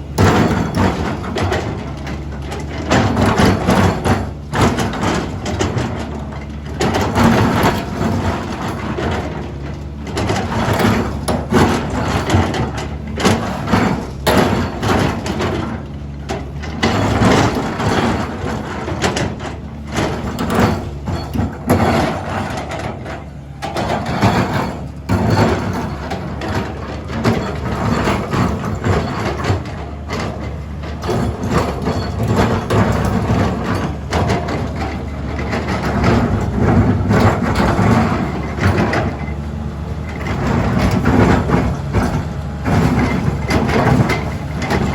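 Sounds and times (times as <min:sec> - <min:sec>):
diesel engine under load: 0:00.0 - 0:44.9.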